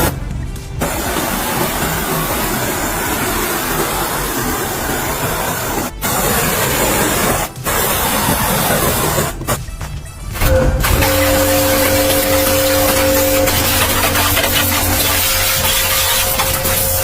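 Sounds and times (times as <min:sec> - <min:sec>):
workshop tool hissing: 0:00.8 - 0:09.4, 0:11.0 - 0:17.0.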